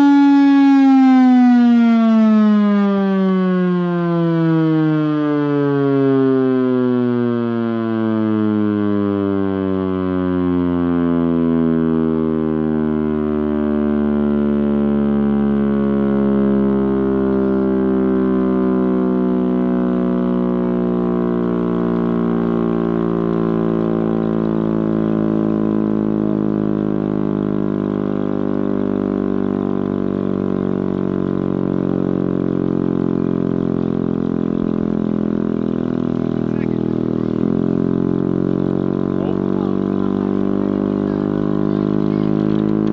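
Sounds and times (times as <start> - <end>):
air raid siren wailing: 0.0 - 42.9
engine running: 0.0 - 42.9.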